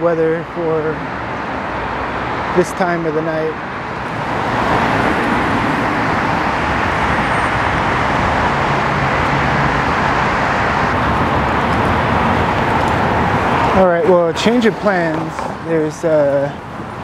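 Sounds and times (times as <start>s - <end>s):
freeway traffic rushing: 0.0s - 17.0s.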